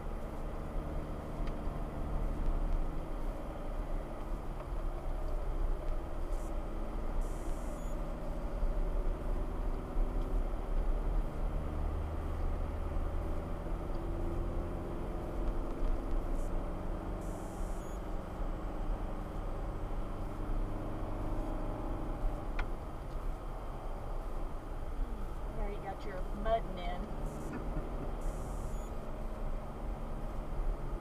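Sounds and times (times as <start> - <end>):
car engine rumble: 0.0 - 31.0
road noise inside car: 0.0 - 31.0.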